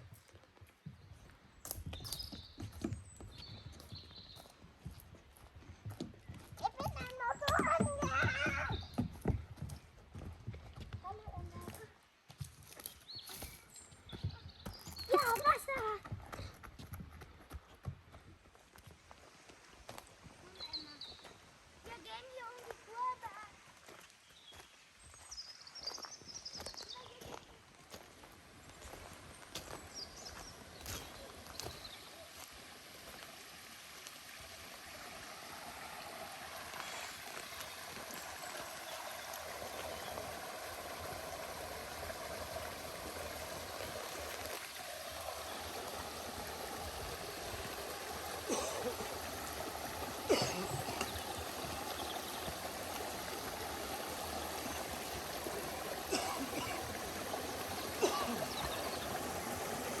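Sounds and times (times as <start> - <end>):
stream running over stones: 0.0 - 60.0.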